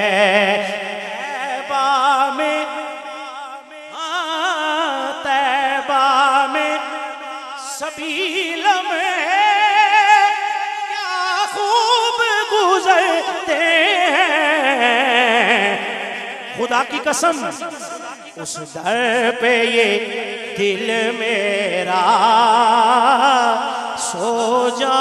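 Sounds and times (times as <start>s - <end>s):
man singing with vibrato: 0.0s - 25.0s.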